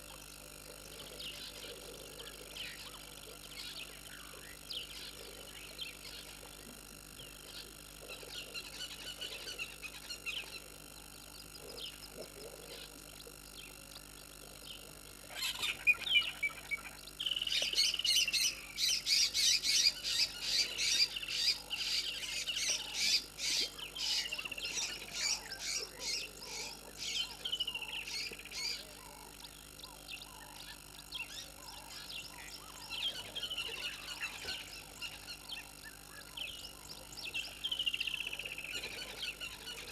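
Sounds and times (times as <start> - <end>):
birds chirping and trilling: 0.0 - 39.9
faint frog croaks: 0.0 - 39.9.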